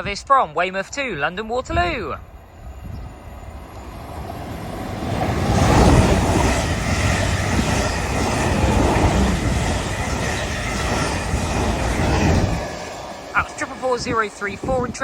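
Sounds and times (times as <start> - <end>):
train passing at speed: 0.0 - 15.0
wheel and rail noise: 0.6 - 15.0.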